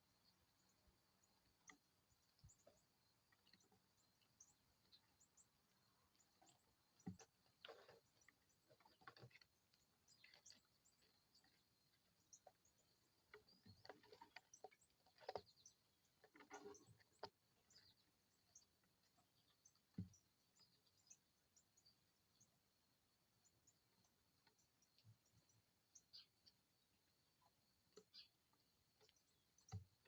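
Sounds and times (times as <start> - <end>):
faint bird chirps: 0.0 - 30.0.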